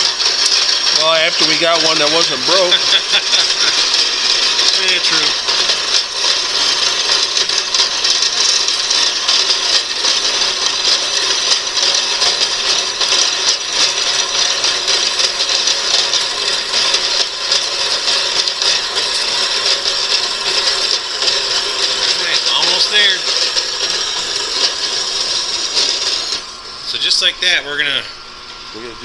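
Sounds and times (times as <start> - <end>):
power saw cutting metal: 0.0 - 29.0.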